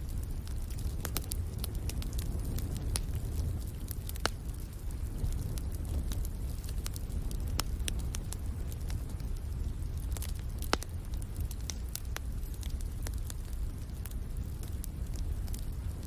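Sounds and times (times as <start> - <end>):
low fire rumble: 0.0 - 16.0
wood fire crackling and popping: 0.0 - 16.0.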